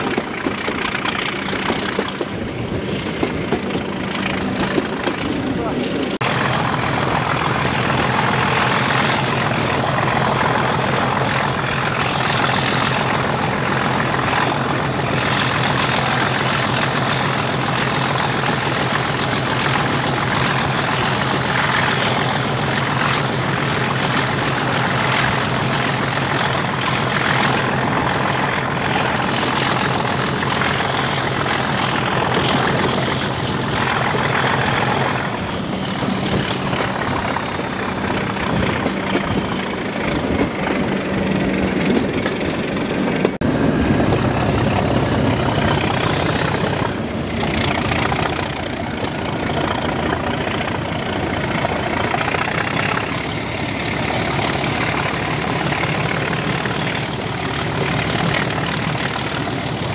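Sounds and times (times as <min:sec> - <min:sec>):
diesel locomotive engine droning: 0:00.0 - 0:59.9.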